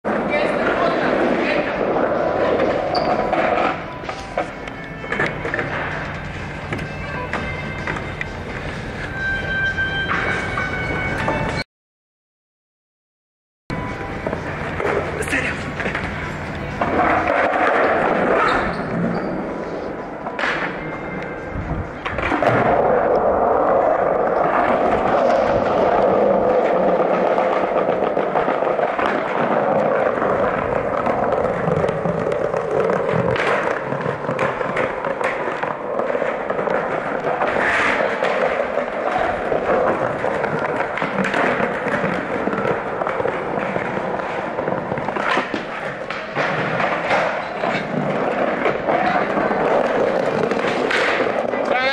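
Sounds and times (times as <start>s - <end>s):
skateboard clacking on ground: 0.0s - 11.6s, 13.7s - 51.9s
skateboard wheels rolling on stone: 0.0s - 11.6s, 13.7s - 51.9s.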